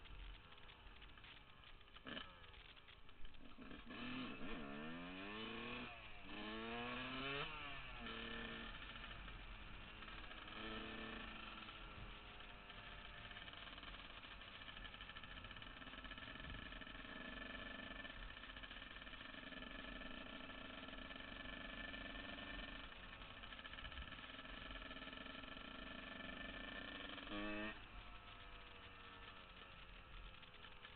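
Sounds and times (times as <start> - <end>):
two-stroke motorbike engine running: 0.0 - 30.9.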